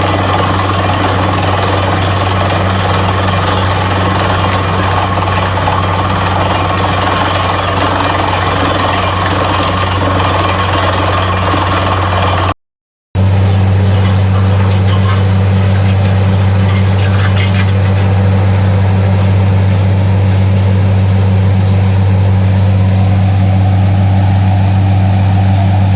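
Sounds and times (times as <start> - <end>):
drilling rig engine drone: 0.0 - 12.6, 13.2 - 25.9.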